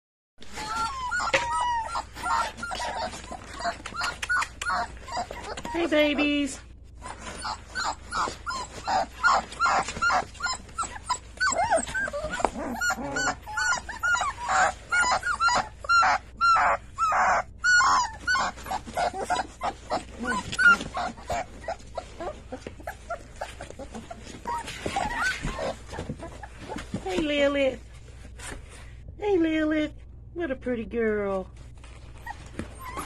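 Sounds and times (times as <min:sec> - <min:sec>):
puppies whimpering and squealing: 0:00.4 - 0:27.5, 0:31.8 - 0:33.0.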